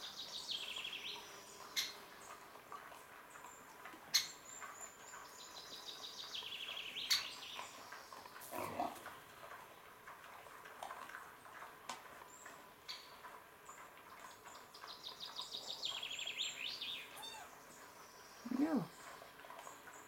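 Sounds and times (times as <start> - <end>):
wild boar foraging: 0.0 - 20.0.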